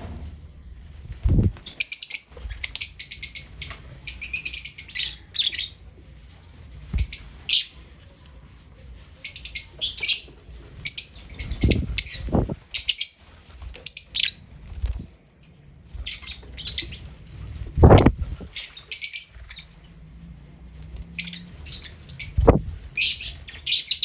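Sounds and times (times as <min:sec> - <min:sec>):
lovebirds chirping: 0:01.0 - 0:15.1, 0:15.9 - 0:20.0, 0:20.6 - 0:24.0.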